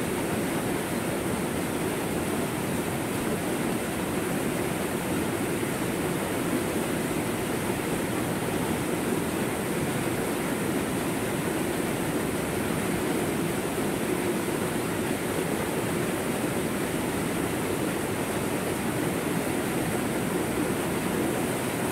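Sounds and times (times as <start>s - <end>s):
water rushing over rocky waterfall: 0.0s - 21.9s.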